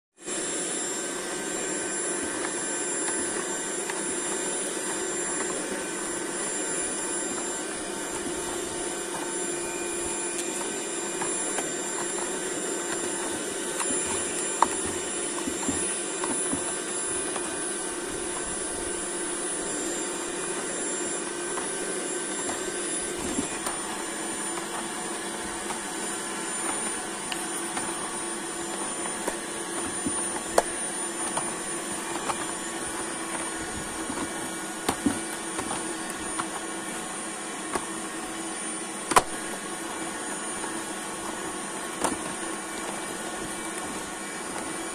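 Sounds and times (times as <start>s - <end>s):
vacuum cleaner running on grass: 0.1s - 44.9s.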